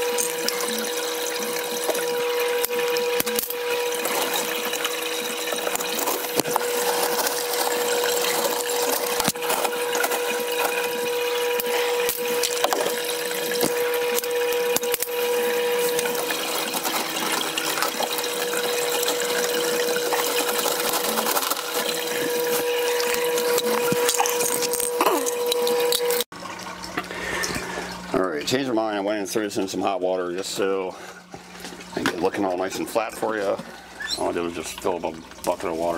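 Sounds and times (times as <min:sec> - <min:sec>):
pump hum: 0:00.0 - 0:35.9
running water rushing: 0:00.0 - 0:35.9.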